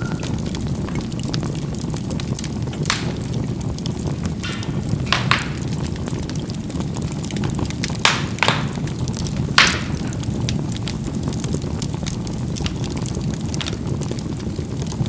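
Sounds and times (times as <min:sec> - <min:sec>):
charcoal fire rushing: 0:00.0 - 0:15.0
coals popping: 0:00.0 - 0:15.0
small crackles: 0:00.0 - 0:15.0.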